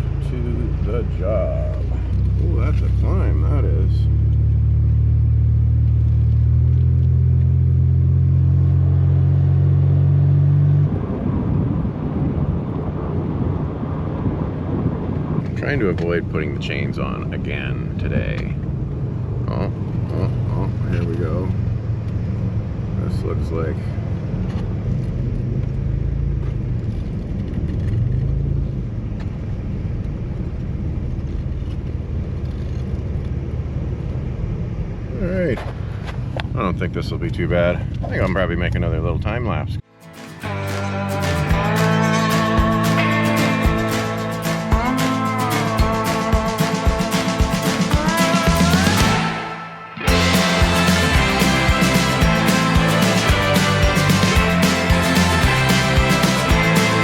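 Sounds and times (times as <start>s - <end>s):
truck engine droning: 0.0s - 27.3s, 37.8s - 57.0s.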